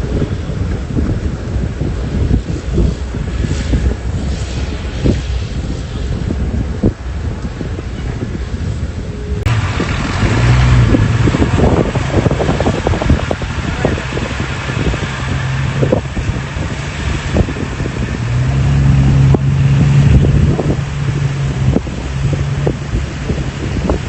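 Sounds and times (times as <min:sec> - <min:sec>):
excavator diesel engine under load: 0:00.0 - 0:24.0.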